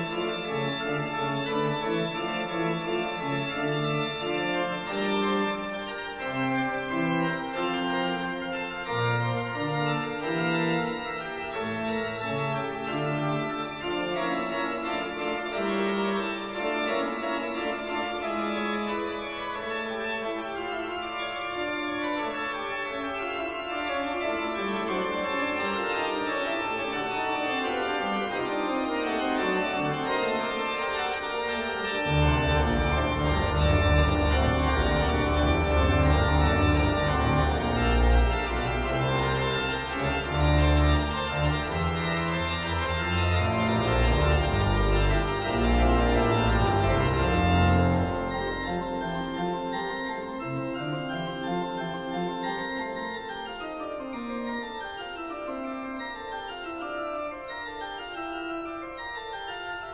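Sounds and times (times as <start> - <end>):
organ-like keyboard chords: 0.0 - 59.9.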